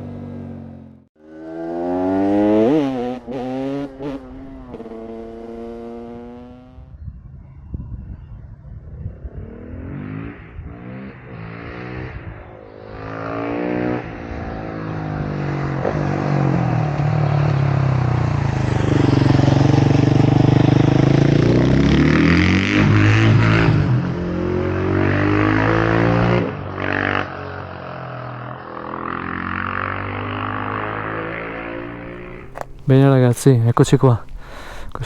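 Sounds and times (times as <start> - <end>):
motorcycle engine revving: 0.0 - 7.1, 8.8 - 35.0.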